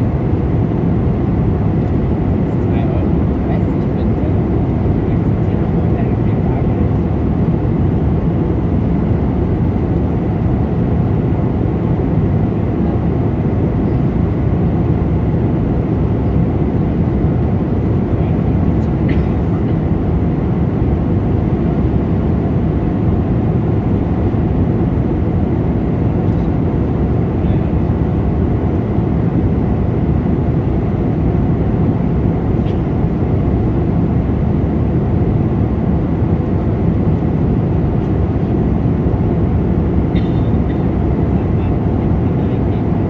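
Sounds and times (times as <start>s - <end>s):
airliner cabin airflow and engine drone: 0.0s - 43.0s.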